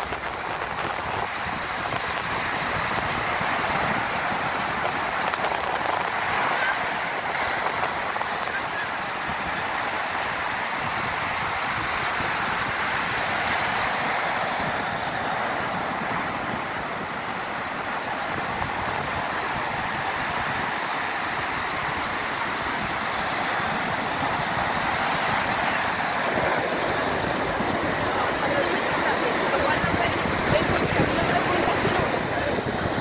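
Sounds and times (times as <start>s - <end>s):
surf breaking on sand: 0.0s - 33.0s.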